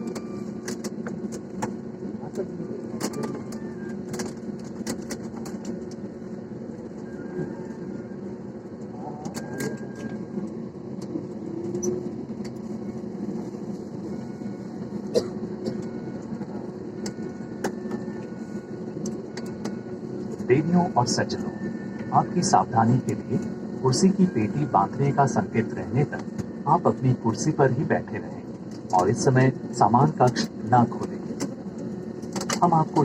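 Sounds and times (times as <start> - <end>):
airliner engines humming: 0.0 - 33.0.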